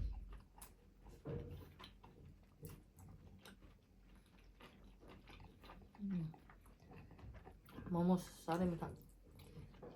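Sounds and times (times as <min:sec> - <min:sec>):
chewing and mouth clicks: 0:00.0 - 0:09.9.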